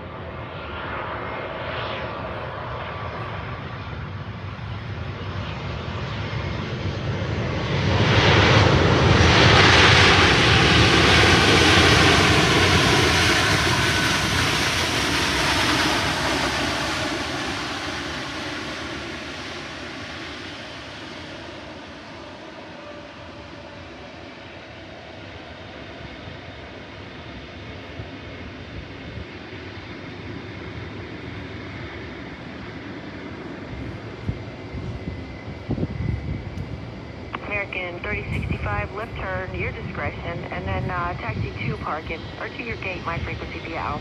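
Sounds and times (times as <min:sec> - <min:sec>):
jet engines in reverse thrust: 0:00.0 - 0:44.0.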